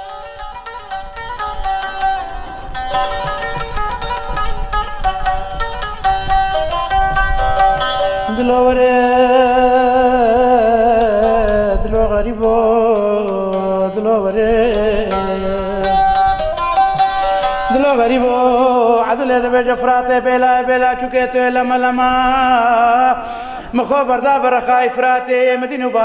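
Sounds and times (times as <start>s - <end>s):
plucked saz strumming: 0.0s - 26.0s.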